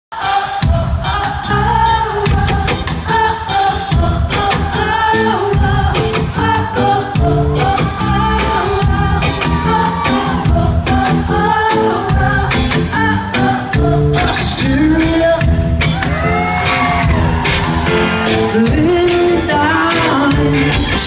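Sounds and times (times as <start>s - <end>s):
woman singing lead vocal: 0.1s - 17.5s, 18.3s - 21.0s
electric guitar: 0.2s - 21.0s.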